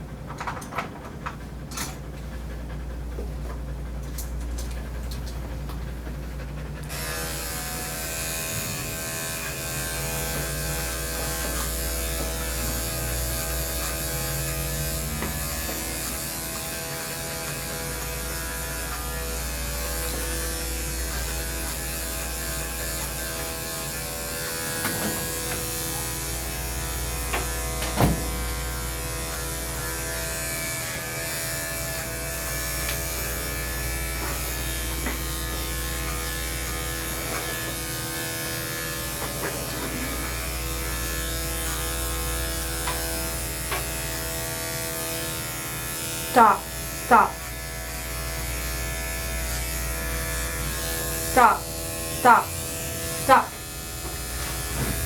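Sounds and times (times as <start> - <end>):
electric clippers buzzing: 6.8 - 55.0.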